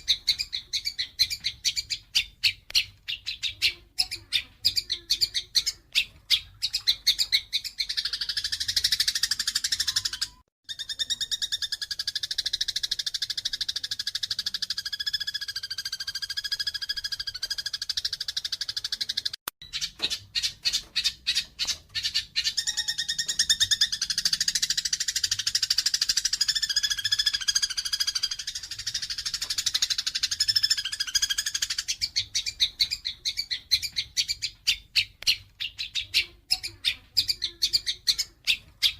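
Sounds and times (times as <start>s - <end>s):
sparrows chirping agitatedly: 0.0s - 38.9s.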